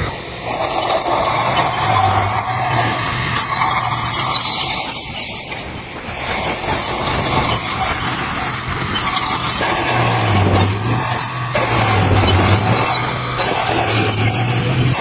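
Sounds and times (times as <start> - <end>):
diesel engine running: 0.0 - 15.0
high metallic squeal: 0.0 - 15.0.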